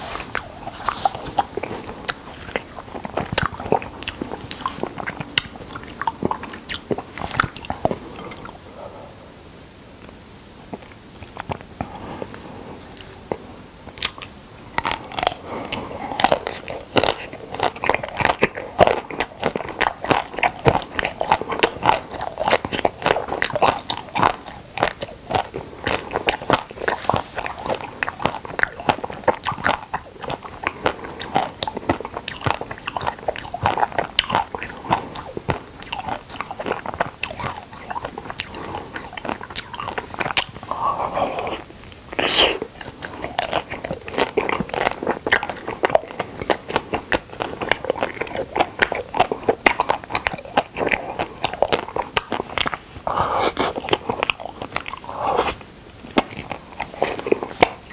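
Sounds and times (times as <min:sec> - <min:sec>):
chewing: 0:00.0 - 0:09.0, 0:10.0 - 0:57.9.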